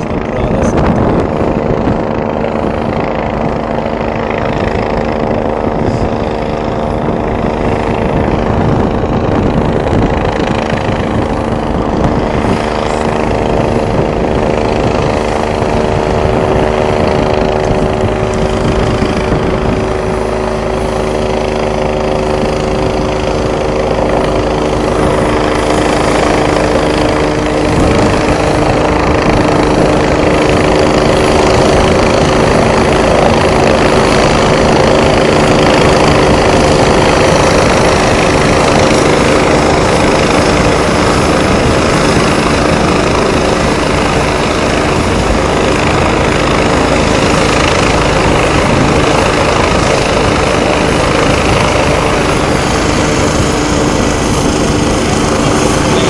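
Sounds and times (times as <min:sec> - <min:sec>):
helicopter rotor and turbine: 0:00.0 - 0:56.0.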